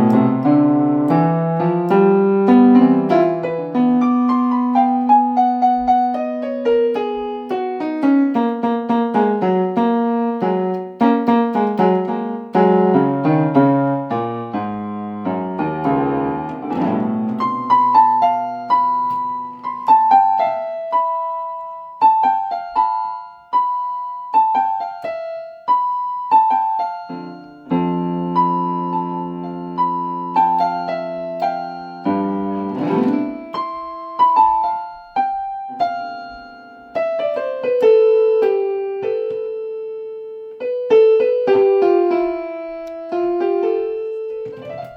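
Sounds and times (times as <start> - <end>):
solo piano keyboard: 0.0 - 44.9.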